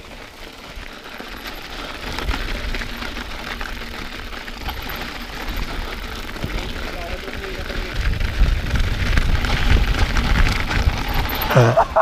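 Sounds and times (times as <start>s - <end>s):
bike rattling and knocking: 0.0s - 12.0s
bike tyres on snow: 0.0s - 12.0s.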